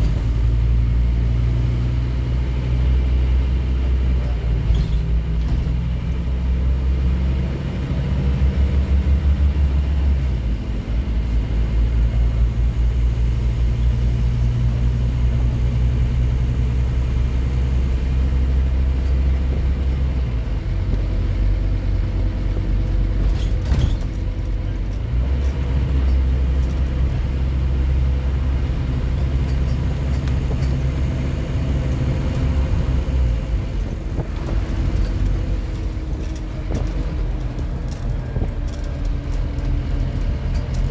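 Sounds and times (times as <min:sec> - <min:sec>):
bus diesel engine under load: 0:00.0 - 0:40.9.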